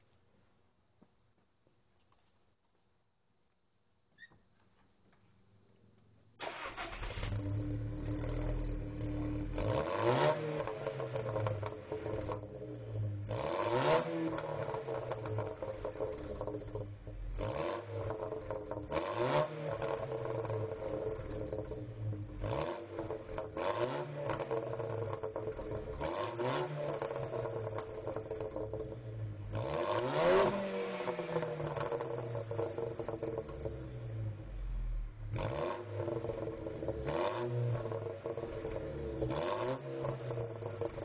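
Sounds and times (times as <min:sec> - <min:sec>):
car engine revving: 0:06.4 - 0:41.0
exhaust backfiring pops: 0:07.1 - 0:41.0.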